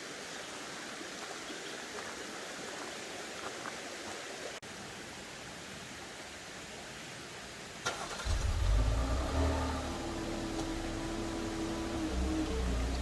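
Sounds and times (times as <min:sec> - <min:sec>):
forest stream rushing: 0:00.0 - 0:13.0.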